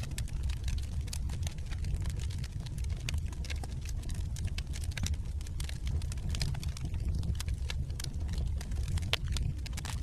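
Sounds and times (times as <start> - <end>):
logs crackling in fireplace: 0.0 - 10.0
low steady rumble: 0.0 - 10.0.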